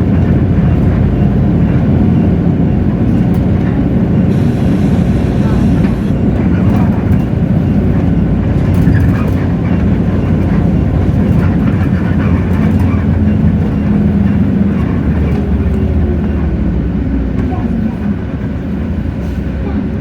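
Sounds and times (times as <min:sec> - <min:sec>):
bus diesel engine rumbling: 0:00.0 - 0:20.0.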